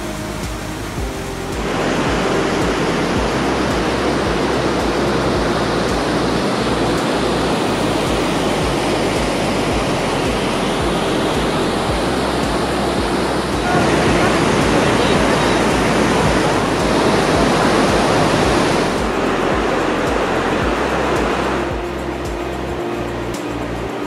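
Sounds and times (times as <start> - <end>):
stream rushing down cascades: 0.0 - 24.0.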